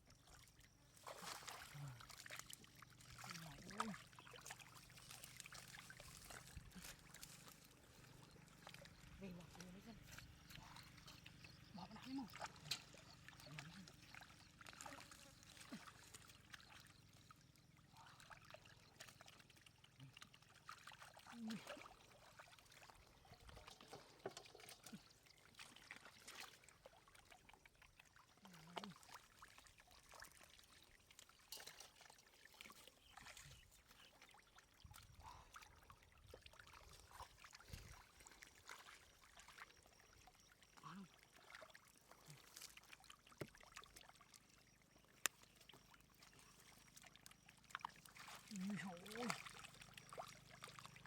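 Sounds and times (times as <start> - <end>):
water trickling and splashing: 0.0 - 51.0.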